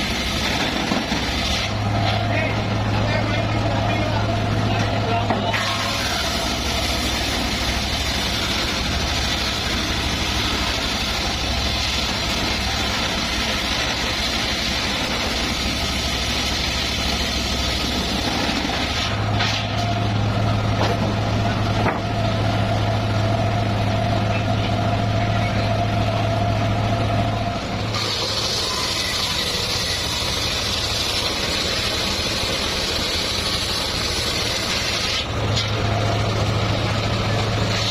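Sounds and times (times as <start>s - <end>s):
circular sawmill running: 0.0s - 37.9s
engine hum: 0.0s - 37.9s.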